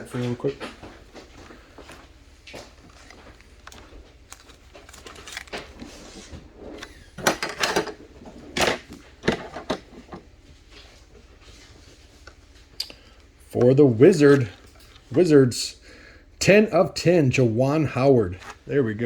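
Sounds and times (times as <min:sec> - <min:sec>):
card packs crinkling and rustling: 0:00.1 - 0:12.3, 0:13.0 - 0:15.5, 0:17.9 - 0:19.0.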